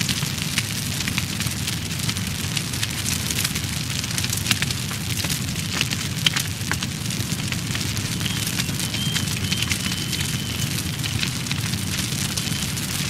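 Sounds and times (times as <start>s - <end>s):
fire burning: 0.0s - 13.0s
fire crackling and popping: 0.0s - 13.0s.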